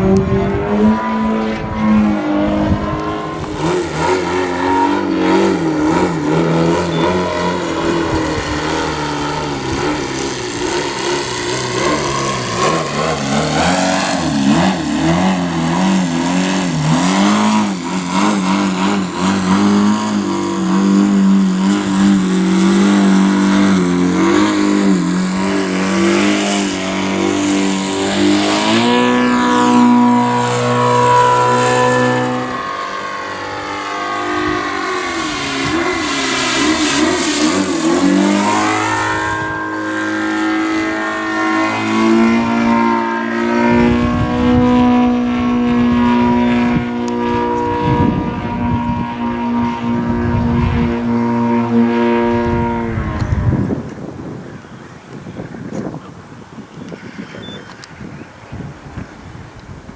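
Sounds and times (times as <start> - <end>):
model plane engine: 0.0 - 59.9.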